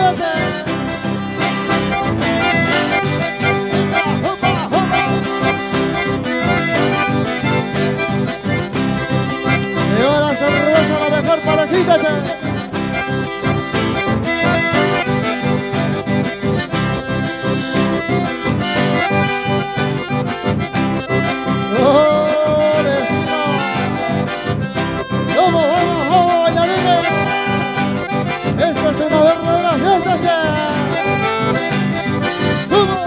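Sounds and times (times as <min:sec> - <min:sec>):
accordion dance music: 0:00.0 - 0:33.0.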